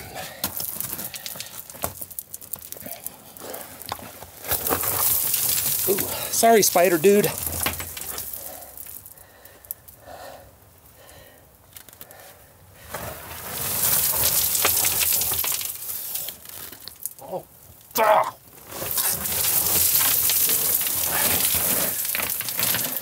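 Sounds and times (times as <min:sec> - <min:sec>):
crunching and scraping of gravel: 0:00.0 - 0:10.0, 0:11.7 - 0:23.0
crackles and clicks: 0:00.0 - 0:10.1, 0:11.0 - 0:12.2, 0:12.9 - 0:23.0.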